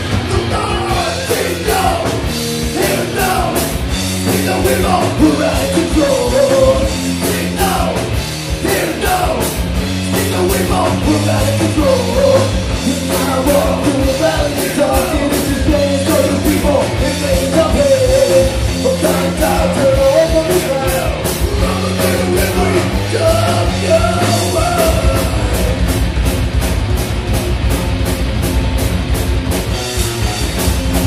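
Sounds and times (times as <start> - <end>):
heavy metal band playing: 0.0 - 31.0
person singing: 0.3 - 9.5, 10.1 - 25.8.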